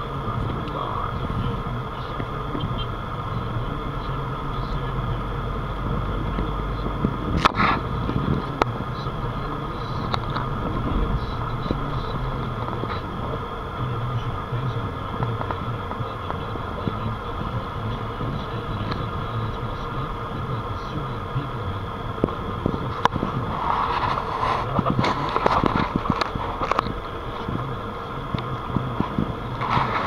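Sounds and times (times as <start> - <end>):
car cabin road and engine noise: 0.0 - 30.0
rush of noise: 0.0 - 30.0.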